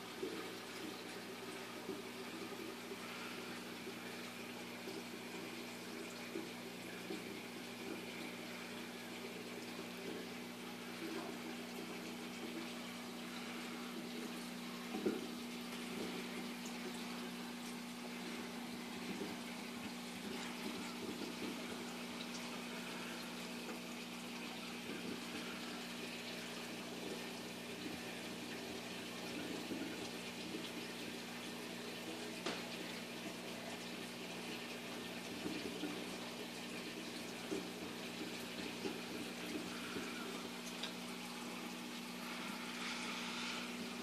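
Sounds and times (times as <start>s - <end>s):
low pump hum: 0.0s - 44.0s
water trickling and splashing: 0.0s - 44.0s.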